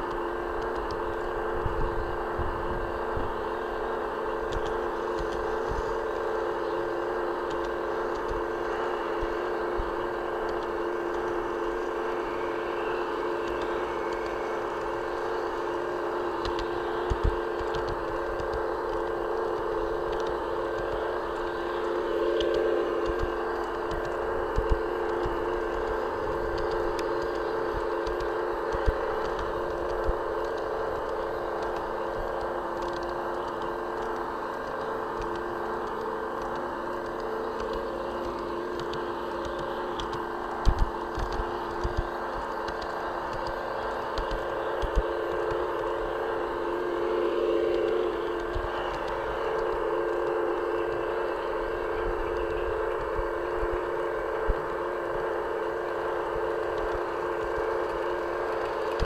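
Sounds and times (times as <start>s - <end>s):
electric motor whine: 0.0s - 59.0s
wheels clicking over track: 0.0s - 59.0s
wind rumble on microphone: 0.0s - 59.0s.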